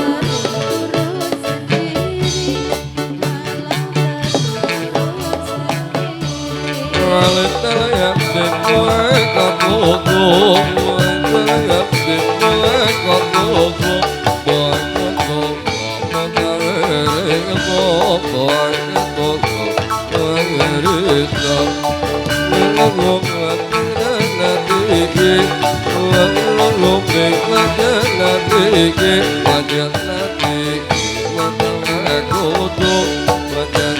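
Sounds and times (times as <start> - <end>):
live band playing instrumental: 0.0 - 33.9
steady drum beat: 0.0 - 33.9.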